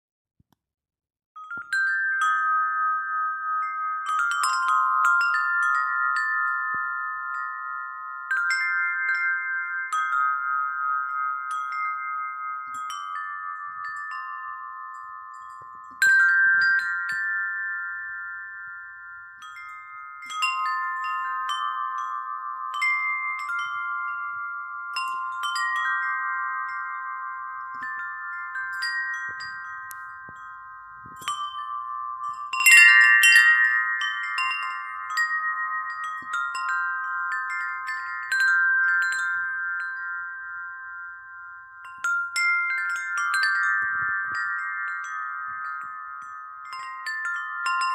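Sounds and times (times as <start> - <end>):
wind chimes ringing: 1.4 - 47.9.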